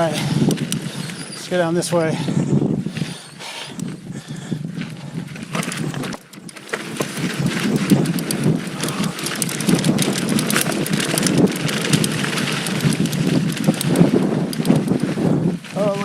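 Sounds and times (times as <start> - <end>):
bike tyres crunching over gravel: 0.0 - 16.0
wind on microphone: 0.0 - 16.0.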